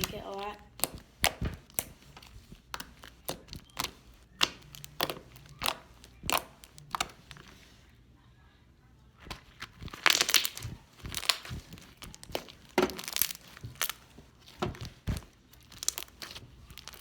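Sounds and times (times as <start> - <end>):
slime crackling: 0.0 - 7.8, 9.2 - 17.0.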